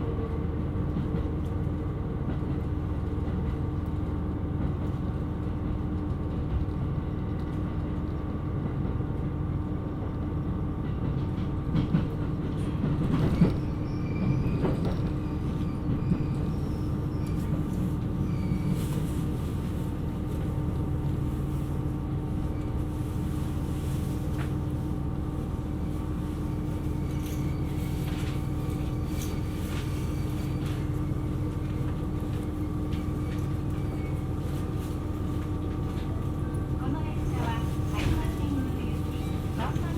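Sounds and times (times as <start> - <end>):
diesel railcar engine drone: 0.0 - 39.9
wheel-on-rail rumble: 0.0 - 39.9.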